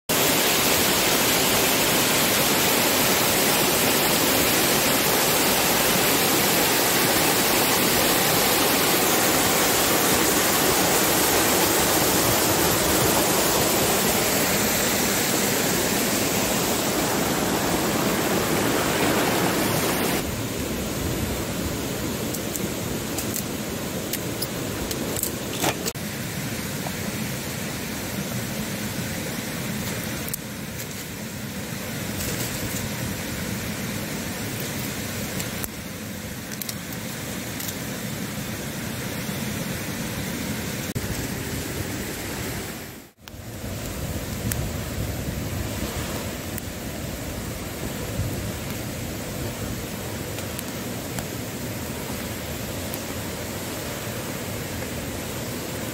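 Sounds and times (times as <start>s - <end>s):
small waterfall rushing: 0.1s - 55.9s.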